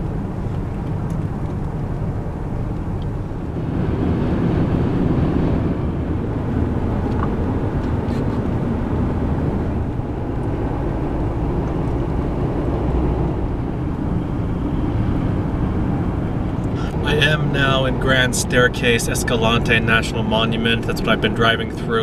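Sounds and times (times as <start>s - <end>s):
car engine hum: 0.0s - 22.0s
road and tyre noise: 0.0s - 22.0s.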